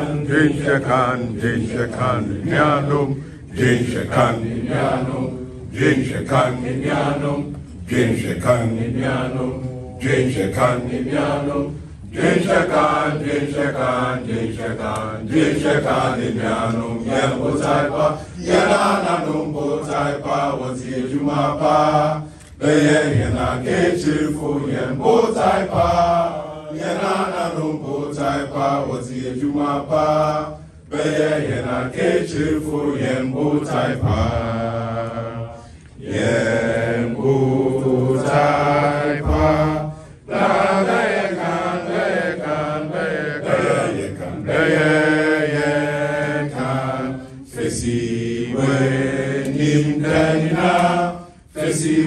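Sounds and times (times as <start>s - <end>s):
men singing together: 0.0s - 52.0s.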